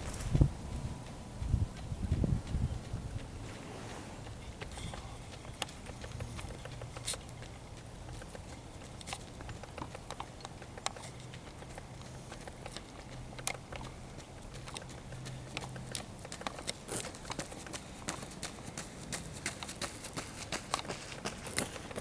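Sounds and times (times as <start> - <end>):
woodpecker pecking: 4.2 - 22.0.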